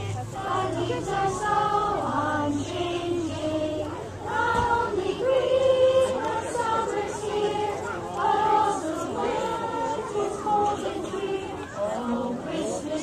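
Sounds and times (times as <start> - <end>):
choir singing long notes: 0.0 - 13.0.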